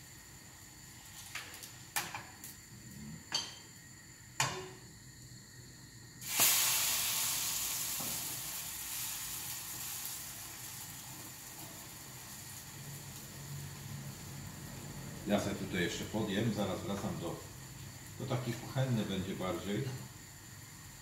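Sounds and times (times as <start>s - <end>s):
pancakes sizzling in oil: 0.0s - 5.3s, 6.2s - 21.0s.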